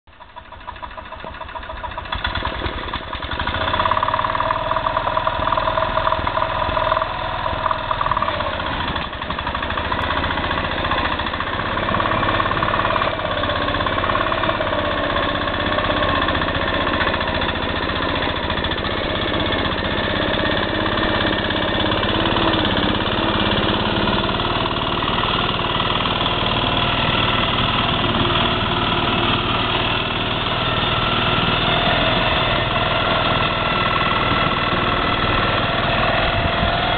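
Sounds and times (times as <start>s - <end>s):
tractor engine running: 0.1s - 36.9s.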